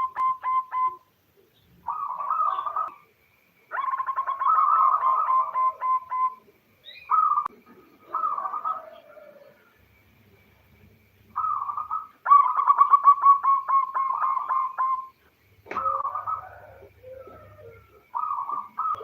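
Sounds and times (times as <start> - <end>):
dove staccato cooing: 0.0 - 1.1, 1.8 - 3.1, 3.7 - 9.8, 11.3 - 19.0.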